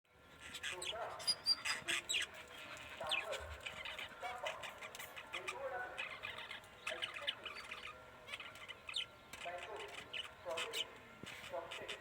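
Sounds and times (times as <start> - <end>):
birds chirping and chattering: 0.3 - 12.0.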